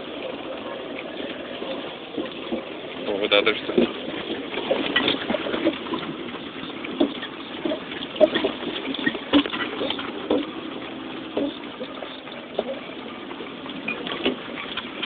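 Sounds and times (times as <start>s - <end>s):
vehicle knocking and rattling: 1.6s - 15.0s.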